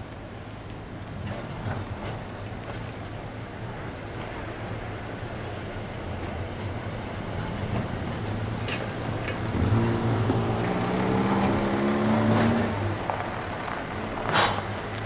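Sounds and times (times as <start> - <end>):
electric tram humming: 0.0 - 15.0.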